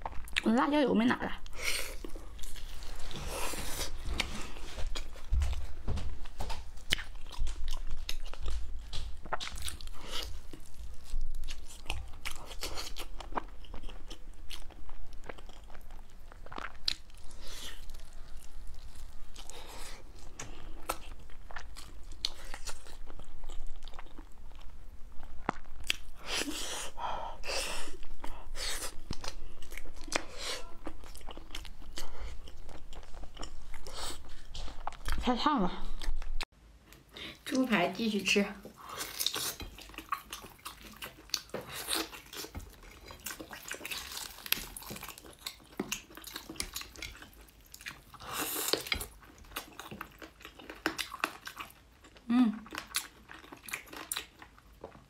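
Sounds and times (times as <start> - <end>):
person chewing meat: 1.4 - 35.2, 38.7 - 55.0.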